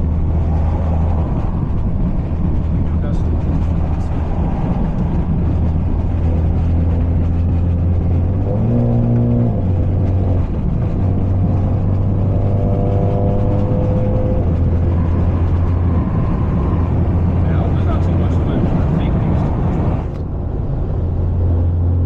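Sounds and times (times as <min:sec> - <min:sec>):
car exhaust droning: 0:00.0 - 0:22.0.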